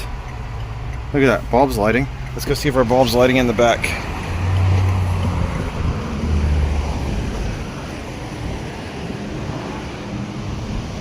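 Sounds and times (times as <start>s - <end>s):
wind buffeting microphone: 2.0s - 11.0s.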